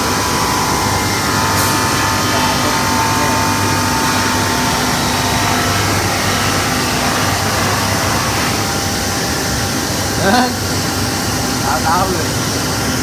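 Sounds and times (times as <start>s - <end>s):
machinery humming with thin whine: 0.0s - 13.0s.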